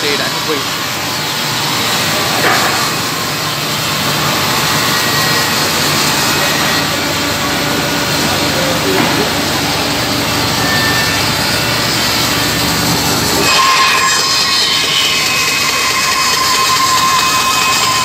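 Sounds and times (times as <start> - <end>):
band saw running: 0.0 - 18.0.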